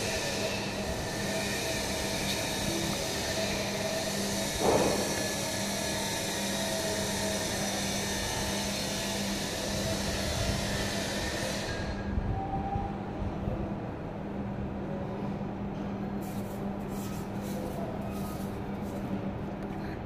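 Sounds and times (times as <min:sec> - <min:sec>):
steady droning hum: 0:00.0 - 0:12.3, 0:13.0 - 0:20.0.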